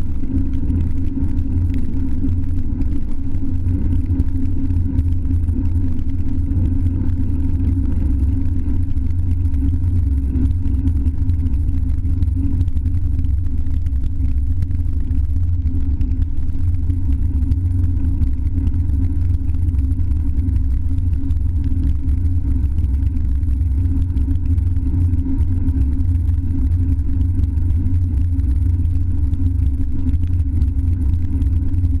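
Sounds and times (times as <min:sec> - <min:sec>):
wind rumble on camera: 0:00.0 - 0:32.0.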